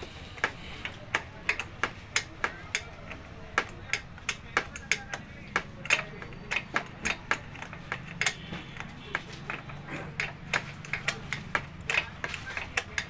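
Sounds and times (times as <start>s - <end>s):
metal tools clicking and tapping: 0.0s - 13.0s.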